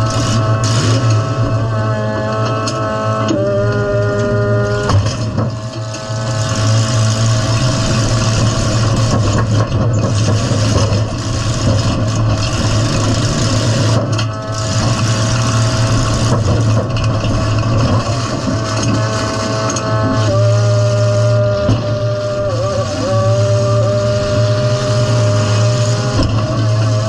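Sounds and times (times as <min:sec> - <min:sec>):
car engine running hard: 0:00.0 - 0:27.0.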